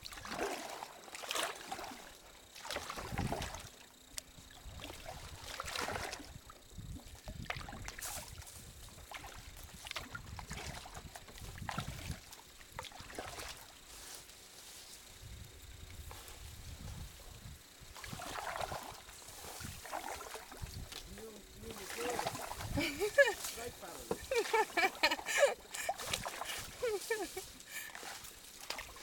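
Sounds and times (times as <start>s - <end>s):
paddles splashing in water: 0.0s - 15.1s, 15.8s - 29.0s.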